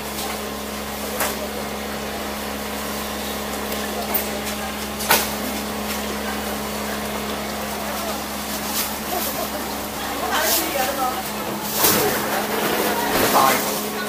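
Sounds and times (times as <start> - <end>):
distant voices: 0.0 - 14.0.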